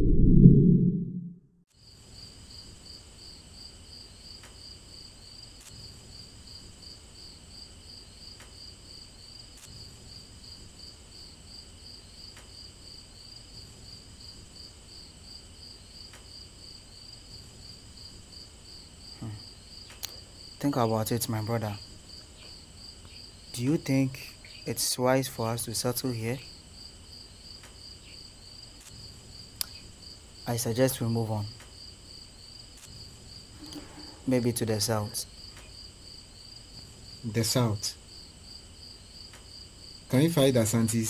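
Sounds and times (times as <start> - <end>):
crickets chirping: 1.8 - 41.0.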